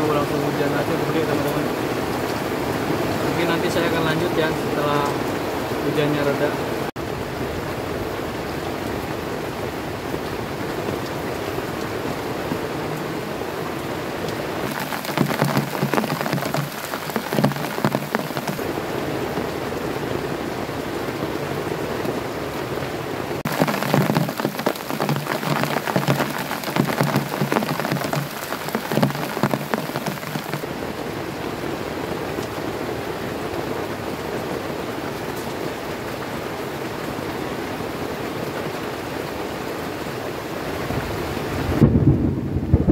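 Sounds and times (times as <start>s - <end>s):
heavy rain on a tent: 0.0s - 42.9s.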